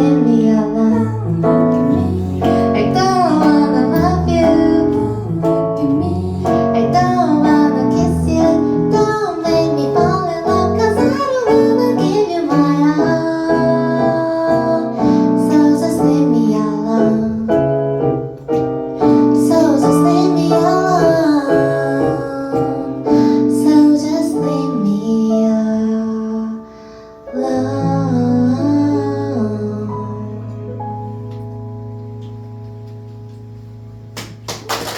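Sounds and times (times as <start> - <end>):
woman singing: 0.0 - 17.8, 19.2 - 26.7, 27.3 - 30.7
keyboard accompaniment: 0.0 - 34.9.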